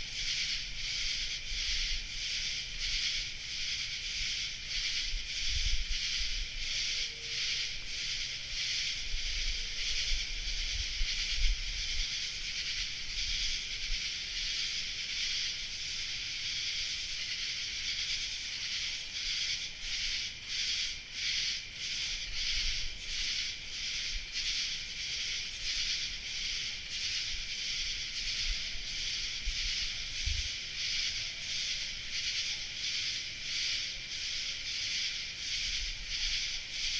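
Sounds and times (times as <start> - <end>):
night insects chorus: 0.0 - 36.9.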